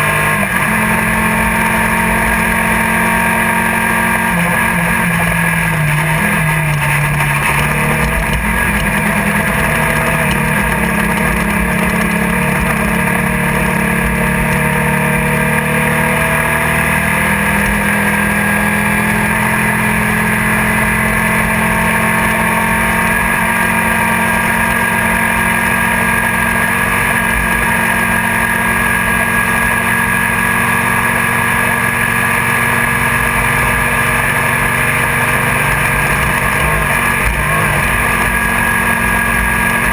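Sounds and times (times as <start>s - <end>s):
race car engine running hard: 0.0s - 39.9s
road and wind noise: 0.0s - 39.9s.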